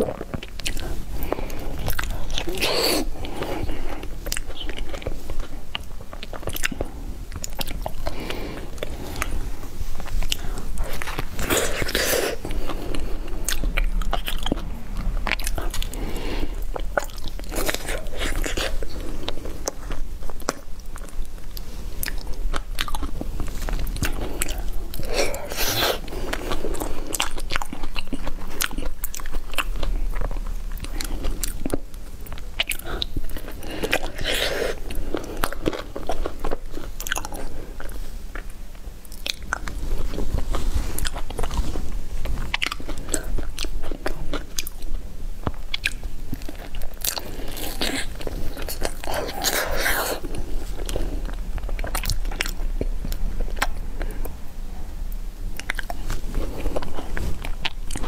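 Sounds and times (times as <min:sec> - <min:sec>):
person chewing: 0:00.0 - 0:54.5, 0:55.5 - 0:58.0.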